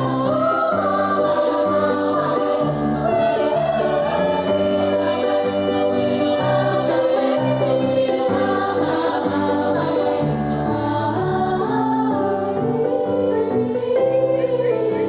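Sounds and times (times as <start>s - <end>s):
voices singing in harmony: 0.0s - 15.0s.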